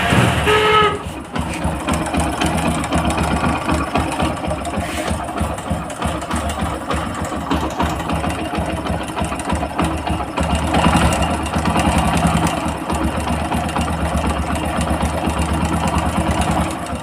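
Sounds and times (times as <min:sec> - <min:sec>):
motorcycle engine idling with rattle: 0:00.0 - 0:17.0.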